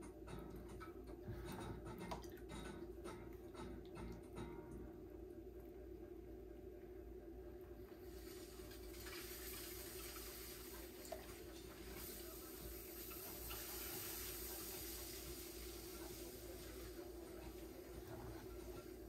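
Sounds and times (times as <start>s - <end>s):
water running: 0.0s - 6.0s, 7.6s - 19.0s
low steady hum: 0.0s - 19.0s.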